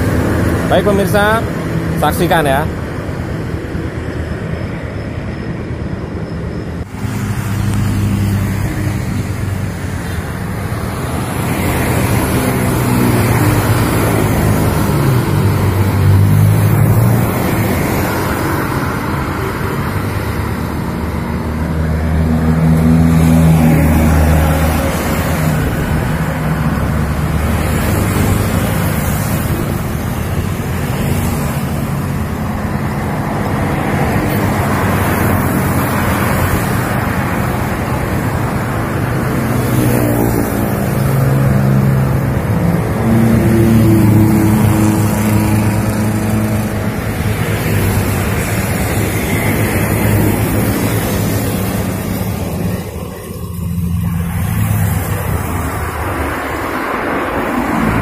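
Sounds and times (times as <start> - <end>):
cars passing by: 0.0 - 58.0.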